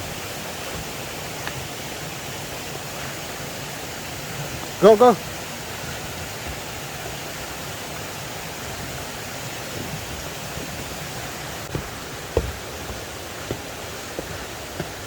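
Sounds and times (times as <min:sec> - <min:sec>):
dull thumps: 0:00.0 - 0:02.0, 0:03.9 - 0:15.0
rushing water: 0:00.0 - 0:15.0.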